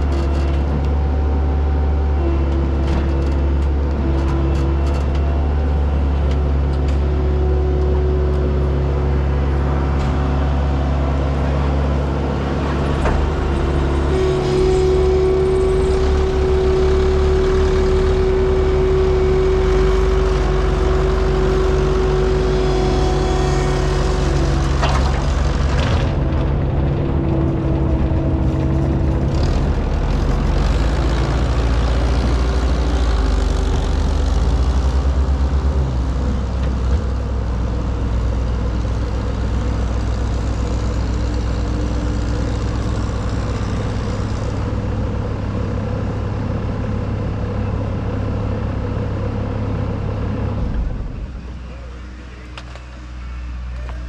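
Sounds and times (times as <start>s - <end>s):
steady mechanical whine: 0.0s - 37.3s, 38.0s - 54.0s
diesel engine running under load: 0.0s - 54.0s.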